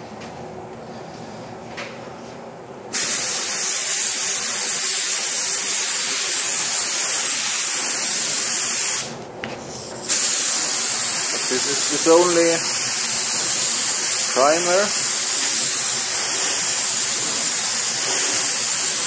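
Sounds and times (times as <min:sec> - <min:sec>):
paint spray gun hissing: 0:02.9 - 0:09.2, 0:09.8 - 0:19.0.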